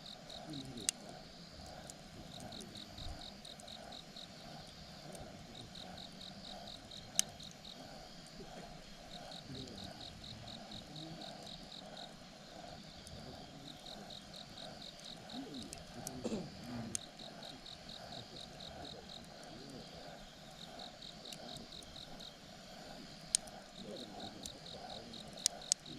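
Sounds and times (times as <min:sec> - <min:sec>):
campfire crackle: 0:00.0 - 0:25.9
crickets chirping: 0:00.0 - 0:25.9.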